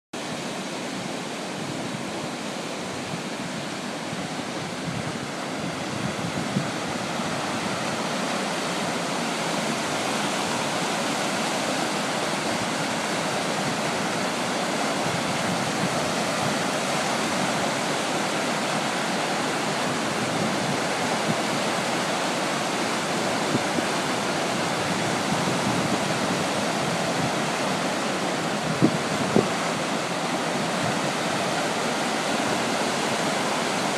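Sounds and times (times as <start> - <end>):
whitewater rushing: 0.2 - 33.9.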